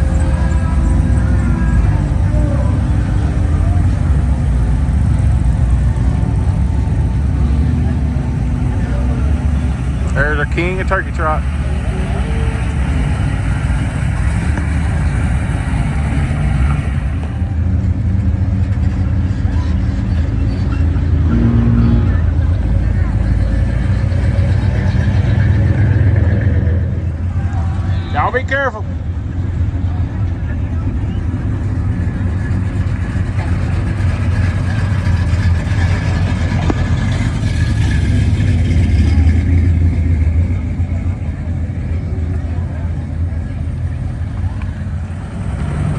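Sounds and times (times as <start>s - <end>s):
engine rumbling at low speed: 0.0s - 45.9s.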